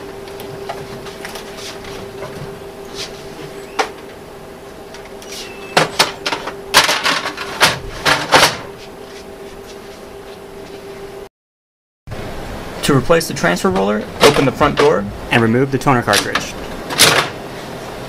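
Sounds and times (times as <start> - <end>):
steady hum: 0.0 - 11.3, 12.1 - 18.0.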